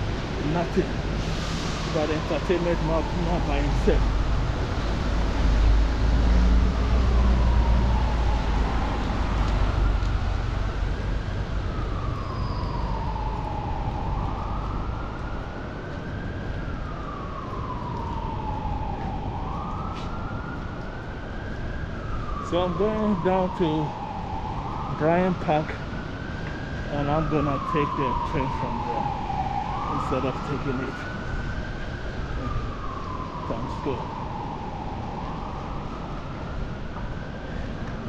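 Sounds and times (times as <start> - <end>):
emergency vehicle siren wailing: 0.0 - 38.0
street noise: 0.0 - 38.0.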